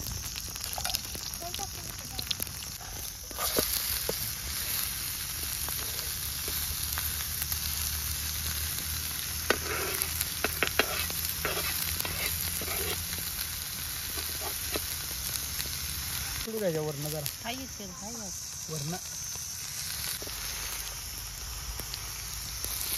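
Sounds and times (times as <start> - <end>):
egg sizzling in oil on a griddle: 0.0 - 22.9.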